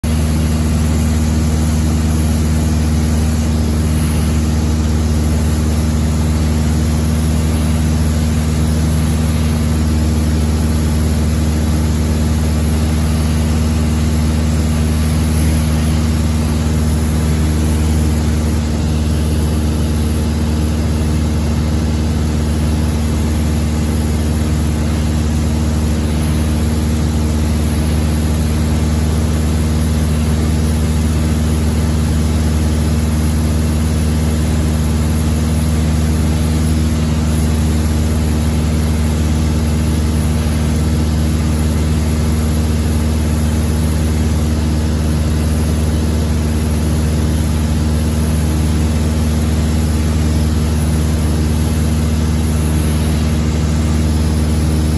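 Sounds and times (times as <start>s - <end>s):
propeller aircraft engine drone: 0.0s - 54.9s.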